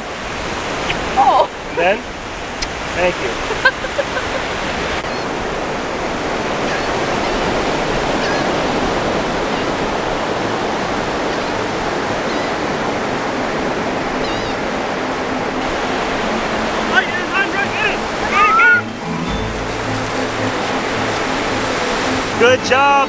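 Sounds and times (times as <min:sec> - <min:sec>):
ocean surf breaking on beach: 0:00.0 - 0:23.0.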